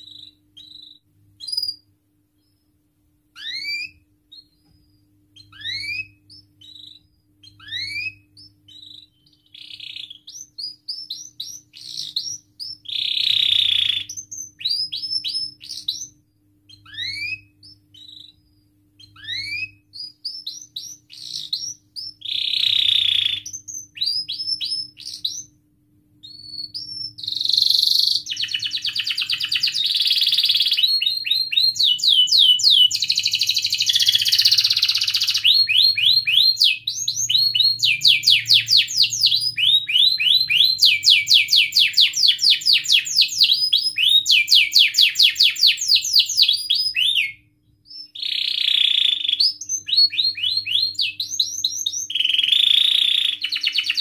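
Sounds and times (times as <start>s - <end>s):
canary singing: 0.0s - 25.6s, 26.2s - 54.0s.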